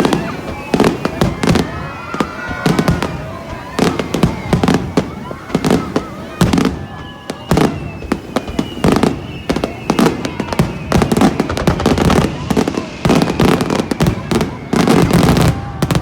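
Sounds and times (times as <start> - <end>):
fireworks bursting with loud bangs: 0.0 - 16.0.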